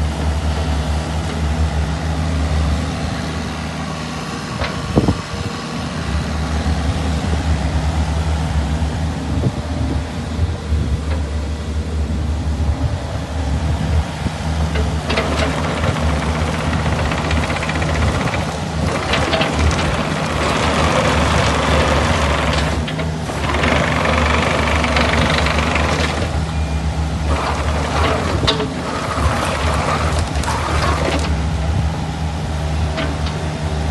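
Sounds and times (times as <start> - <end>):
excavator diesel engine running: 0.0 - 33.9
noisy working sound: 0.0 - 33.9.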